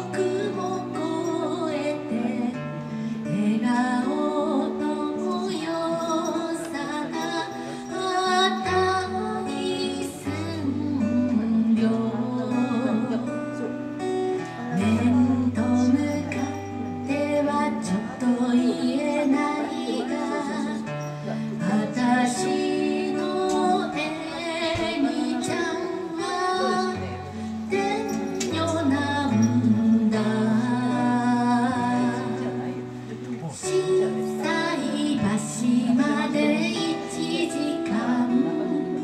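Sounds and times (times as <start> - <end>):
strummed acoustic guitar: 0.0 - 39.0
woman singing: 0.0 - 39.0.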